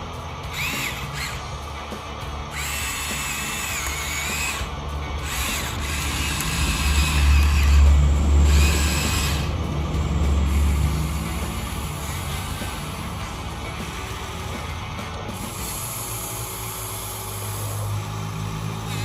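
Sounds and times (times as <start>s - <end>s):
electric gear motors whining: 0.0s - 19.0s.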